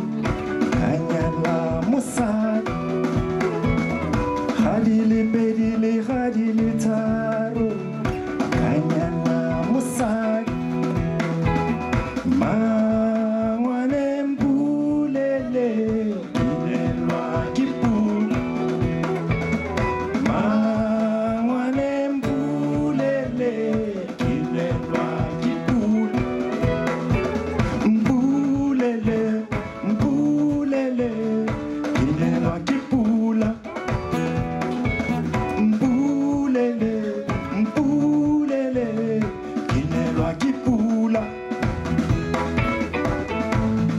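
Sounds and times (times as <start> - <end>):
drum beat: 0.0 - 43.9
guitar: 0.0 - 43.9
percussion: 0.0 - 43.9
person singing: 0.0 - 43.9.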